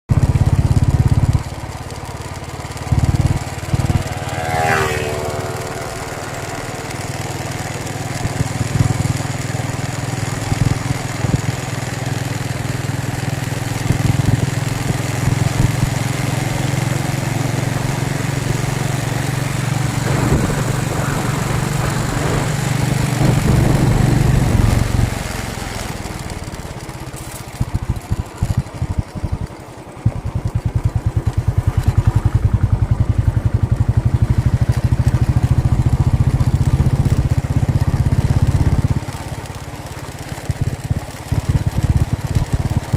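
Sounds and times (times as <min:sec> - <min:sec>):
engine running: 0:00.1 - 0:42.9.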